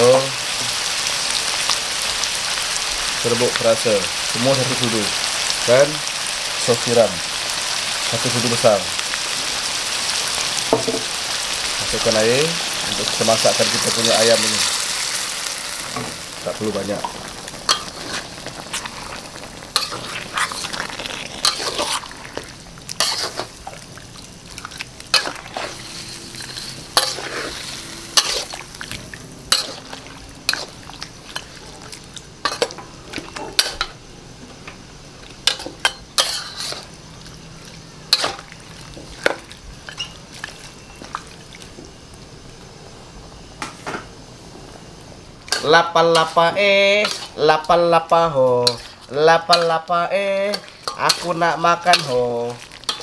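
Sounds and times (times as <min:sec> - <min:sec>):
sauce sizzling: 0:00.0 - 0:53.0.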